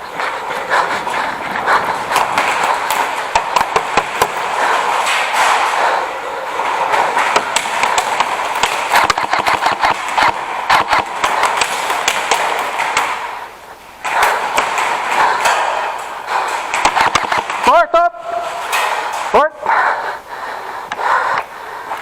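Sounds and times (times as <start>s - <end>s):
airsoft guns firing: 0.0s - 19.4s.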